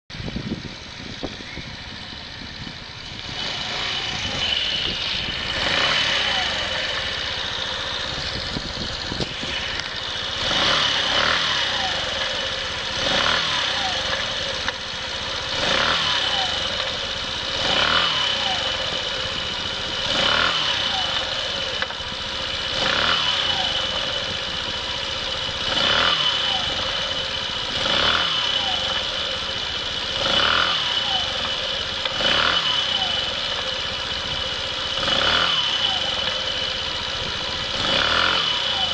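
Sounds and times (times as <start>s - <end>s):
high engine whine: 0.1s - 38.9s
motorcycle engine idling: 0.1s - 38.9s.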